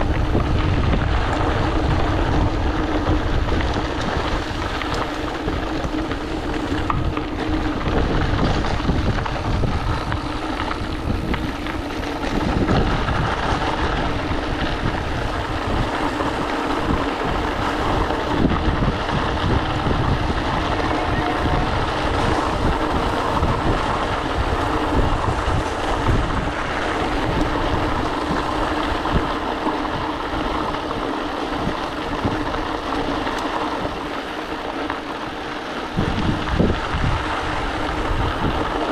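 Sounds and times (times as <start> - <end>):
bike tyres crunching gravel: 0.0 - 38.9
wind on microphone: 0.0 - 38.9.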